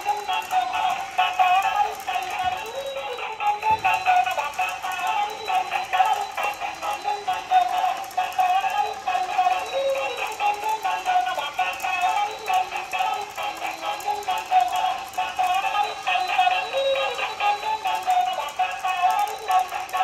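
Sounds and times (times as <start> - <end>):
electronic tune from toy speaker: 0.0 - 20.0.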